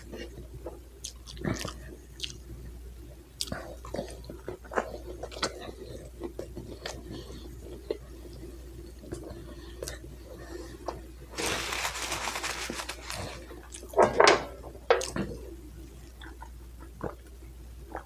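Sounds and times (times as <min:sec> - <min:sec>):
chewing crunchy food: 0:00.0 - 0:02.6, 0:03.4 - 0:14.0, 0:15.0 - 0:18.0.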